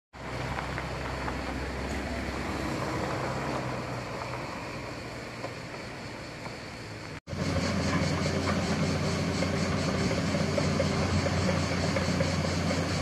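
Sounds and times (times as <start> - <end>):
motor engine humming: 0.2 - 13.0
constant rushing noise: 0.4 - 13.0.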